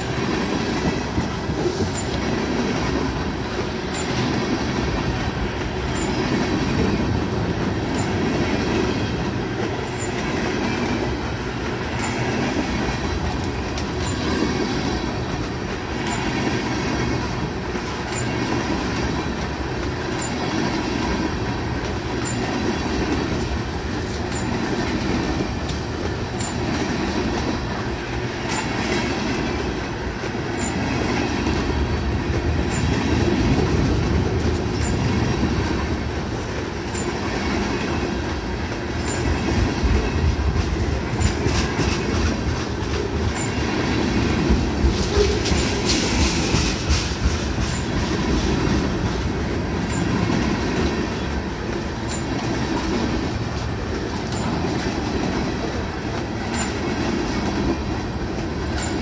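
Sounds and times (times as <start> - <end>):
steel wheels rumbling on rails: 0.0 - 59.0
wheels clacking over rail joints: 0.0 - 59.0.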